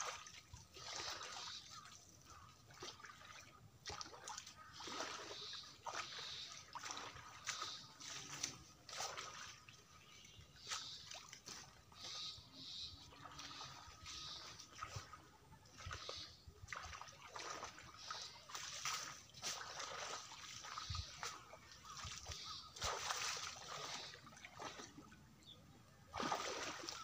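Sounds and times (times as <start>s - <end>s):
person striding through water: 0.0s - 27.0s
shallow water splashing: 0.0s - 27.0s.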